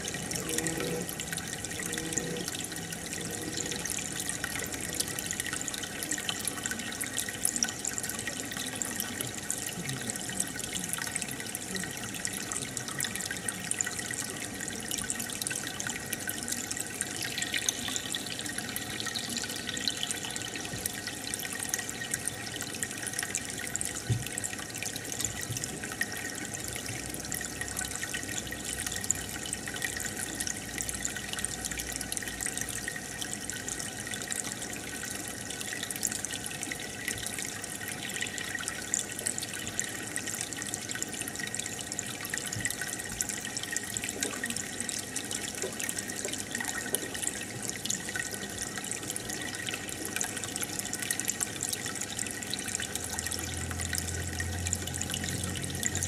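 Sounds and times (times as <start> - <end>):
aquarium water bubbling: 0.0 - 56.0.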